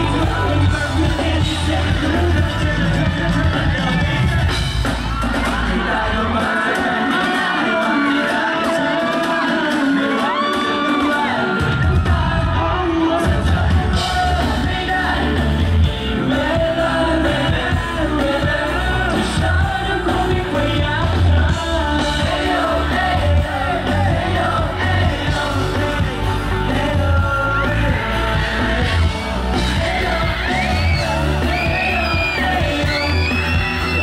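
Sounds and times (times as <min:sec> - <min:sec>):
person singing: 0:00.0 - 0:04.6, 0:05.2 - 0:34.0
heavy bass and drums: 0:00.0 - 0:07.9, 0:11.2 - 0:34.0
live pop band: 0:00.0 - 0:34.0.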